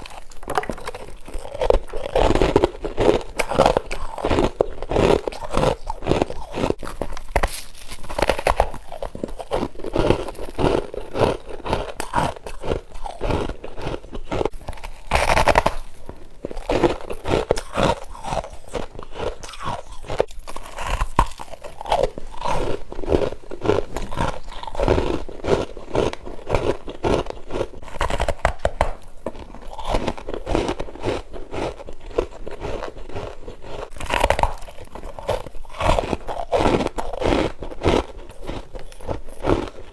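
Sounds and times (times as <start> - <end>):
person chewing crunchy frost: 0.0 - 39.9.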